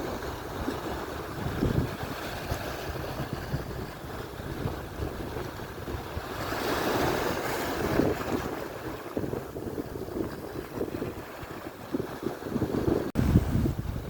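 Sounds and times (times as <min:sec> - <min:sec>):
surf washing onto shore: 0:00.0 - 0:14.0
wind buffeting microphone: 0:00.0 - 0:14.0.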